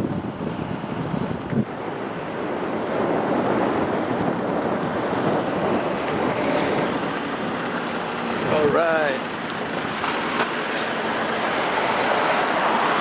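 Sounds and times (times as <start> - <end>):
truck road noise: 0.0 - 13.0
wind buffeting microphone: 0.0 - 13.0.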